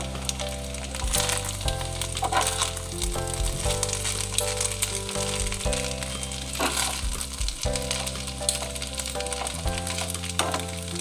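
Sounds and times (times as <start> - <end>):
background music with low notes: 0.0 - 11.0
pasta sizzling in a pan: 0.0 - 11.0.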